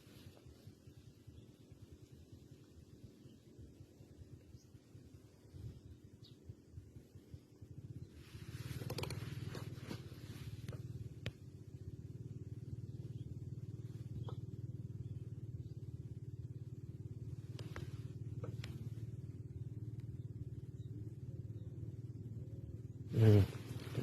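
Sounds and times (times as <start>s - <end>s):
small boat engine humming: 0.0s - 24.0s.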